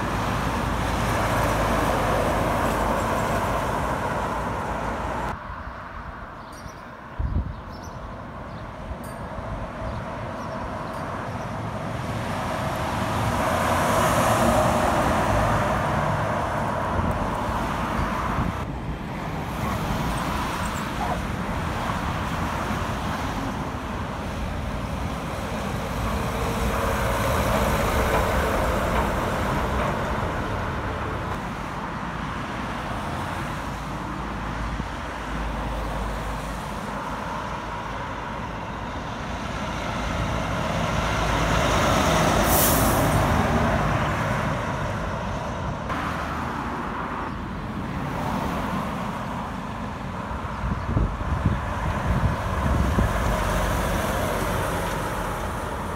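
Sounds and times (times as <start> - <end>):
diesel trucks passing: 0.0 - 7.2, 8.0 - 55.9.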